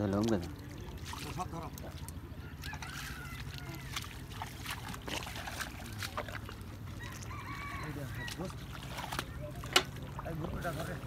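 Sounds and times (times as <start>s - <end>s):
feet squelching through mud water: 0.0s - 11.0s
small splashes: 0.0s - 11.0s.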